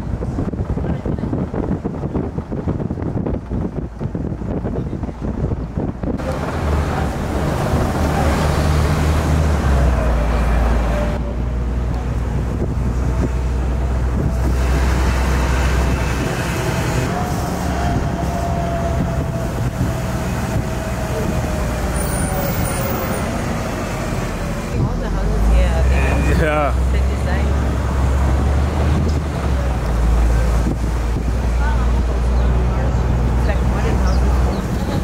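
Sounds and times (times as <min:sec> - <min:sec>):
bus engine drone: 0:00.0 - 0:35.0
road and air noise: 0:00.0 - 0:35.0.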